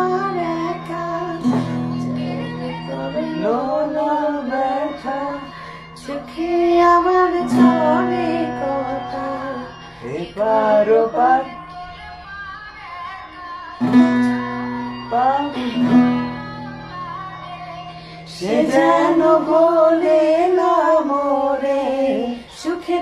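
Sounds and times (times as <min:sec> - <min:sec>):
acoustic guitar: 0:00.0 - 0:23.0
person singing slowly: 0:00.0 - 0:23.0.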